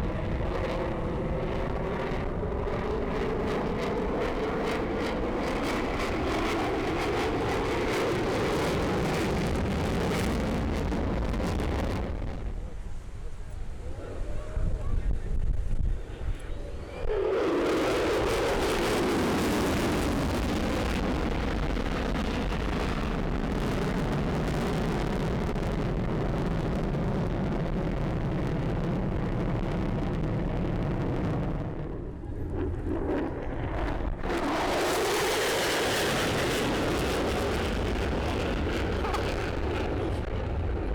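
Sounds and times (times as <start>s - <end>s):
jet engine fly-past roar: 0.0s - 40.9s.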